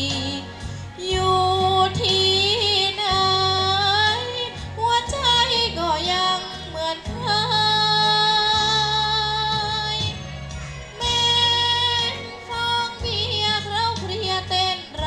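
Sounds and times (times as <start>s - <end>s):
girl singing into microphone: 0.0s - 10.2s, 11.0s - 15.0s
backing music: 0.0s - 15.0s.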